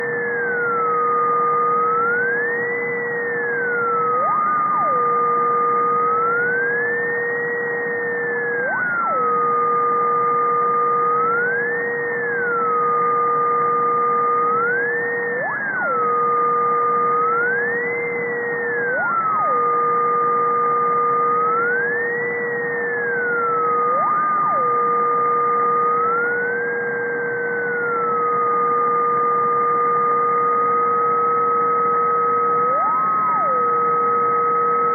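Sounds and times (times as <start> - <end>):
gliding siren-like whistling tone: 0.0 - 34.9
steady whistling tone with blips: 0.0 - 34.9.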